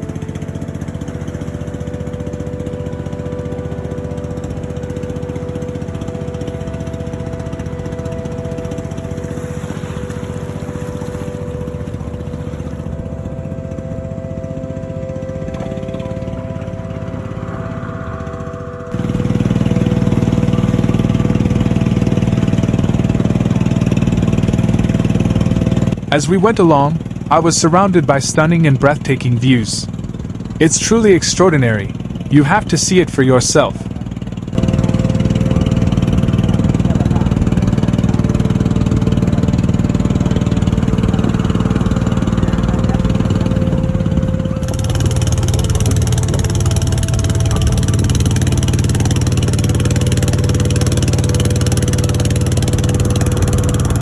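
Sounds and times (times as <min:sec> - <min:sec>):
boat engine chugging: 0:00.0 - 0:54.0.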